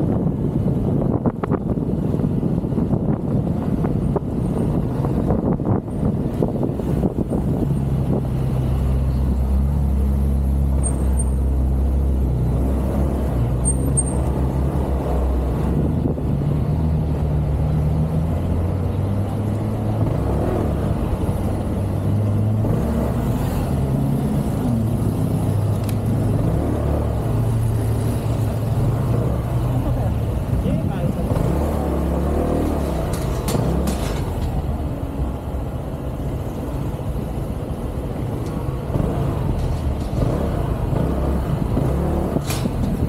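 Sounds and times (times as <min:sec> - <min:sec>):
road and wind noise: 0:00.0 - 0:43.0.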